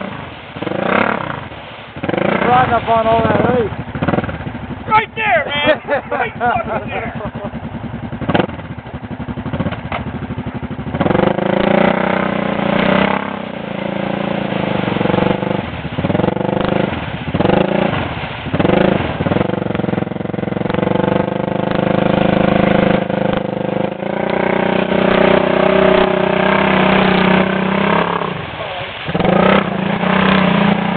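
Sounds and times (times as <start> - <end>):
atv engine revving: 0.0 - 30.9.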